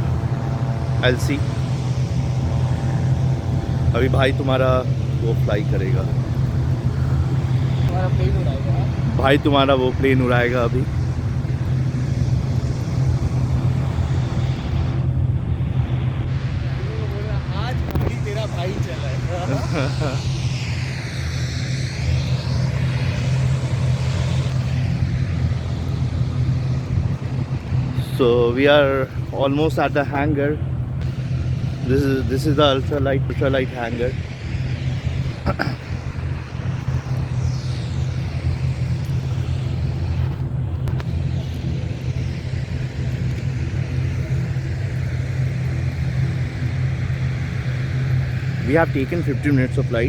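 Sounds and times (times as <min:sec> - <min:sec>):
road noise: 0:00.0 - 0:50.0
vehicle engine hum: 0:00.0 - 0:50.0.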